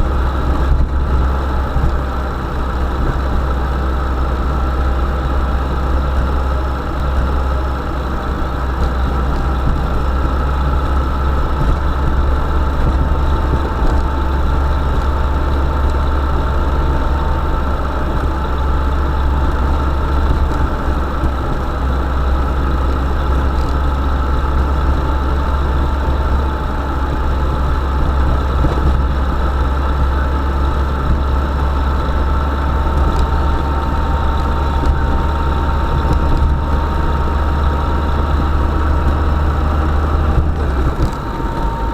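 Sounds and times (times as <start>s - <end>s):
van engine running: 0.0s - 41.9s.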